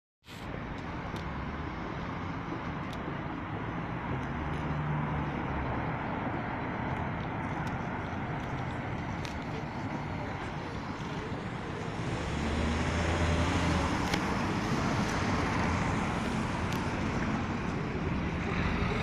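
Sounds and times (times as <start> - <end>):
city street traffic: 0.2 - 19.0
low engine hum: 0.4 - 19.0.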